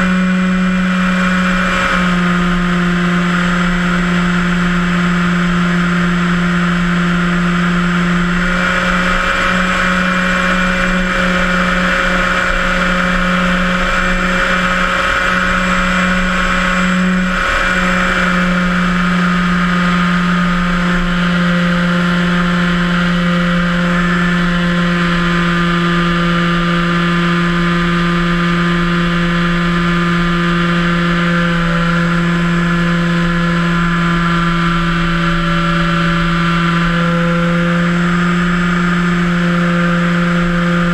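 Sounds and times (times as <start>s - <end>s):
model plane motor whine: 0.0s - 40.9s.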